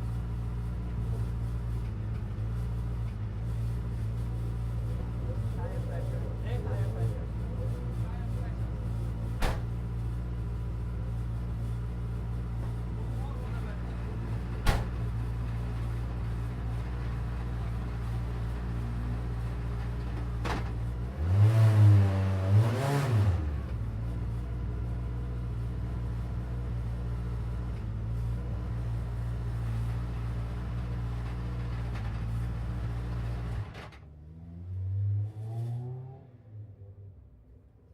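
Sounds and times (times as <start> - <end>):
race car engine idling and revving: 0.0 - 37.6.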